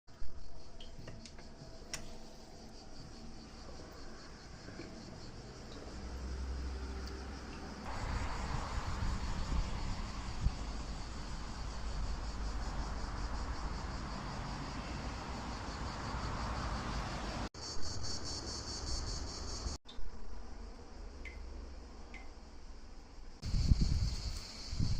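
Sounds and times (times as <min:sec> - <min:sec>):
insects chirping: 0:00.1 - 0:24.9.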